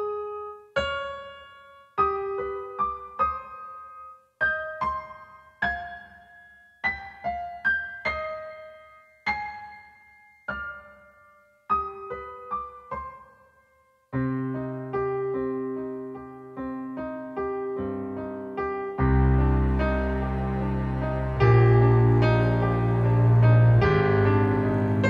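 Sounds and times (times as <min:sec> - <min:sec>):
slow solo piano music: 0:00.0 - 0:25.0.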